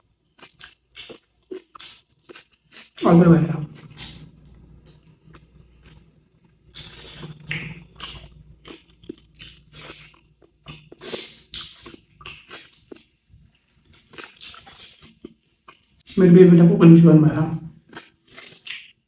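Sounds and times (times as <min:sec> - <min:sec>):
person chewing crunchy food: 0:00.0 - 0:03.0, 0:03.6 - 0:16.2, 0:17.7 - 0:19.0.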